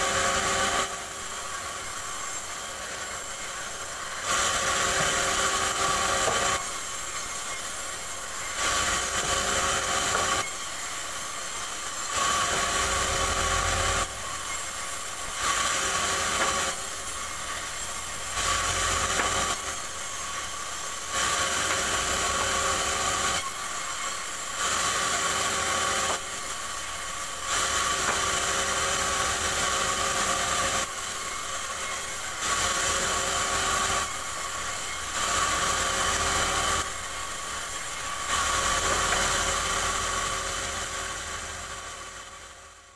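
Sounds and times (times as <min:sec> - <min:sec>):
bandsaw cutting wood: 0:00.0 - 0:42.9.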